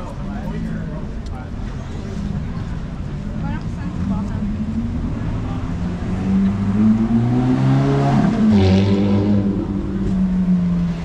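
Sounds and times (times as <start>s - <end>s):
car engine accelerating: 0.3s - 11.0s.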